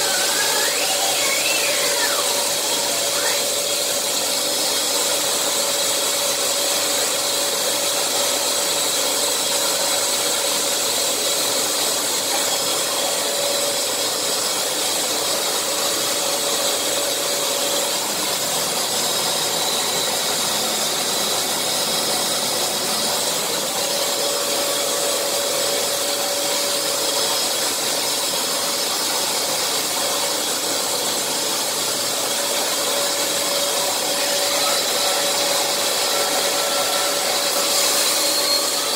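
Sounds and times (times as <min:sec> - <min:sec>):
drywall sander motor whine: 0:00.0 - 0:38.9
dust extractor air rush: 0:00.0 - 0:38.9.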